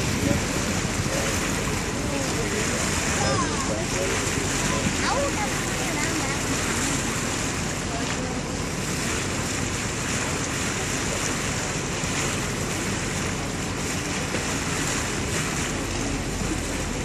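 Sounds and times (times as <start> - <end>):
wind and water rushing: 0.0 - 17.0
wind buffeting microphone: 0.0 - 17.0.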